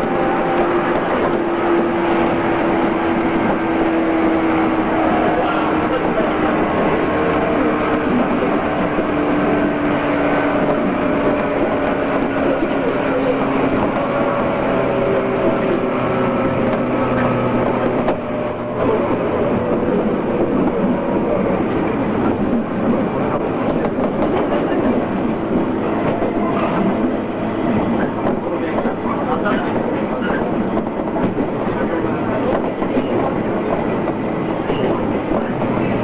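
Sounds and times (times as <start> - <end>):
traction motor whine: 0.0 - 31.5
train wheels rumbling: 0.0 - 36.0.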